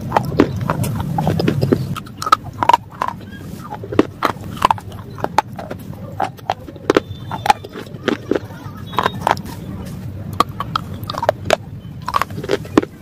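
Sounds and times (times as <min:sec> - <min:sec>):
chewing crunchy shale: 0:00.0 - 0:13.0.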